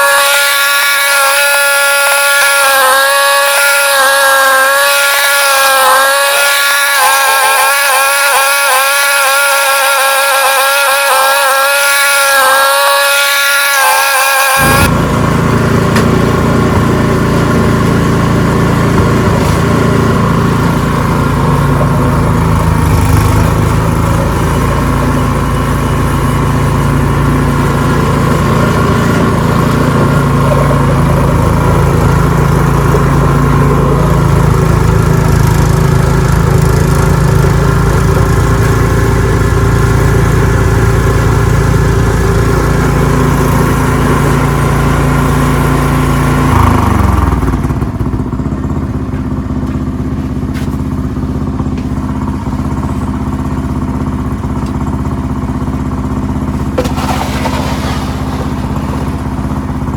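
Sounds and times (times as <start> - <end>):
snowblower engine running: 0.0 - 59.9.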